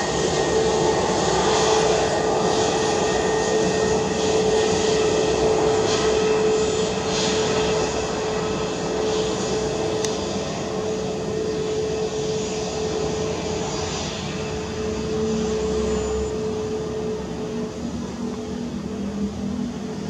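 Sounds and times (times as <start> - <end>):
jet engines whining at low thrust: 0.0 - 20.0.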